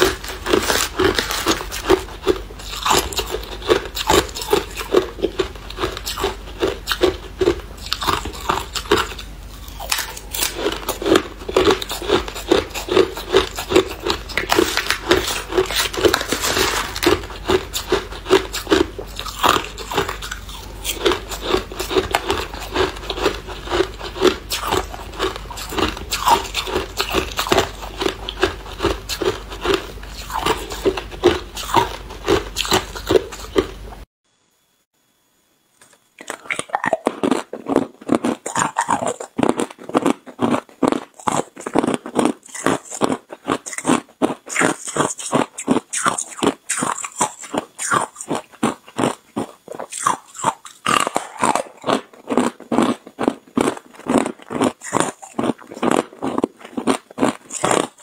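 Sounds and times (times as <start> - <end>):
person crunching ice: 0.0 - 33.7, 36.3 - 58.0.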